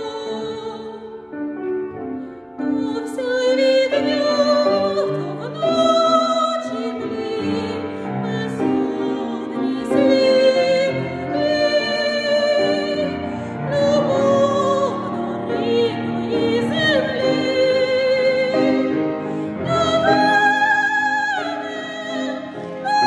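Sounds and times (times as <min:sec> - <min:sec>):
soprano singing with vibrato: 0:00.0 - 0:01.6, 0:02.6 - 0:23.0
grand piano accompaniment: 0:00.0 - 0:23.0.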